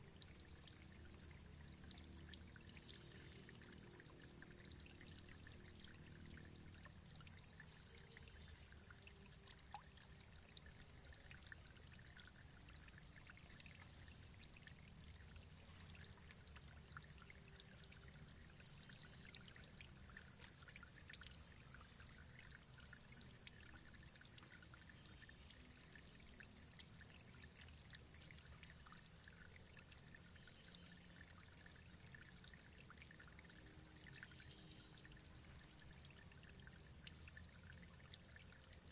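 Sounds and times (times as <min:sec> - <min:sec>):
faint running water: 0:00.0 - 0:38.9
small ticks and splashes: 0:00.0 - 0:38.9.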